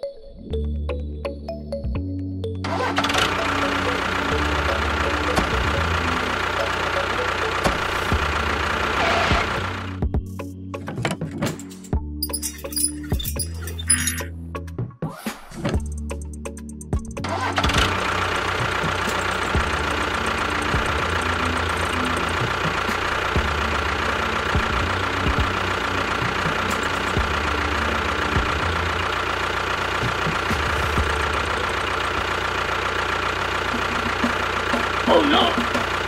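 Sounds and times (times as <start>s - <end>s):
tractor engine running: 2.5s - 14.4s, 15.7s - 36.0s.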